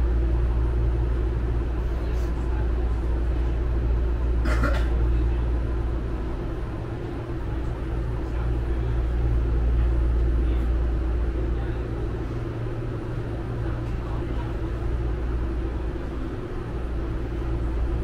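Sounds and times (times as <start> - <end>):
train rumbling and humming: 0.0 - 18.0.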